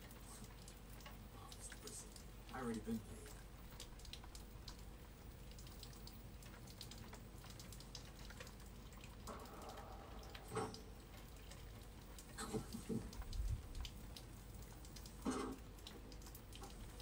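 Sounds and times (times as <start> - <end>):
rain drops ticking: 0.0 - 17.0.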